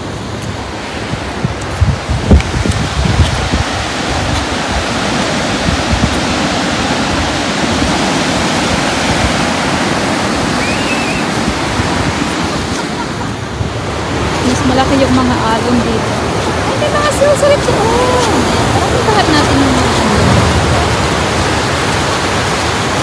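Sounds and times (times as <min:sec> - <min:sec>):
surf breaking on rocks: 0:00.0 - 0:23.0.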